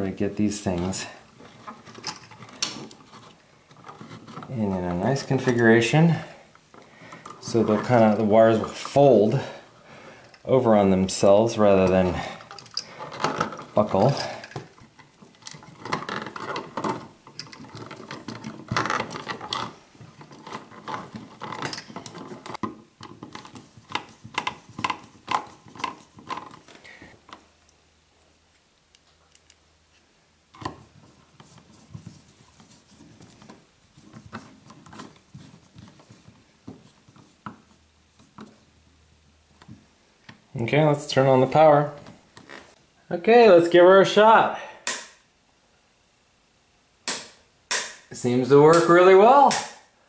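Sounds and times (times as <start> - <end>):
electrical wires rustling and scraping: 0.0 - 27.6, 28.3 - 38.7, 40.6 - 42.8.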